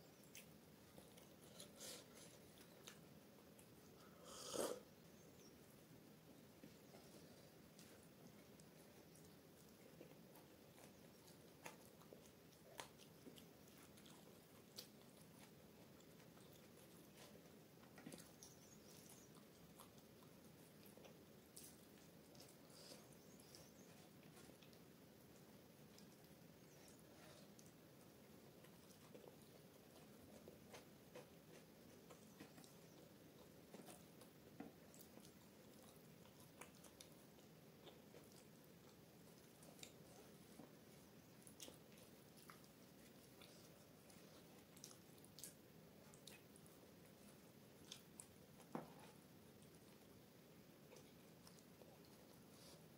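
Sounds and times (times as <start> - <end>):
close-miked chewing: 0.0 - 52.9
steady low hiss: 0.0 - 52.9.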